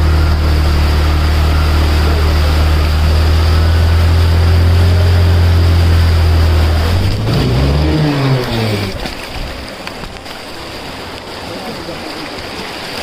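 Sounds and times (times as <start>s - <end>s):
motorcycle engine running: 0.0s - 11.4s
rush of water spray: 0.0s - 13.0s.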